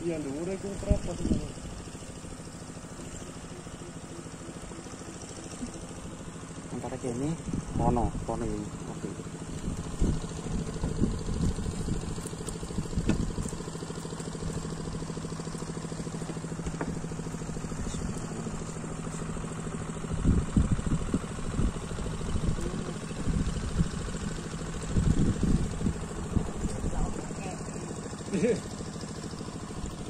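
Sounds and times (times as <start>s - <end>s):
small boat engine running: 0.0s - 30.0s.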